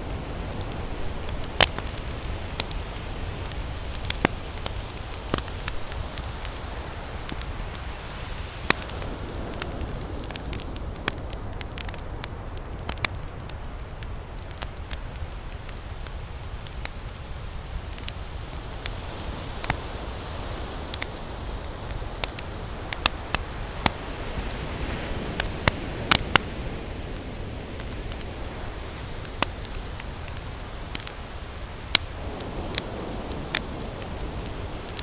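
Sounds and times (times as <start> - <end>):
campfire crackling and popping: 0.0 - 35.0
low fire rumble: 0.0 - 35.0.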